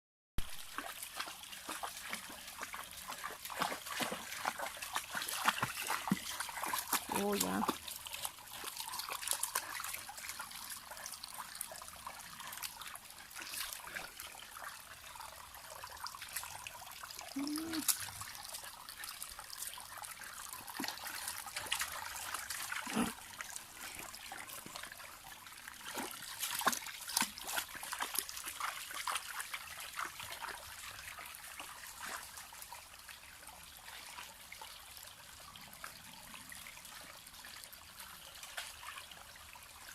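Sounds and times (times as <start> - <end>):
water trickling and splashing: 0.4 - 39.9.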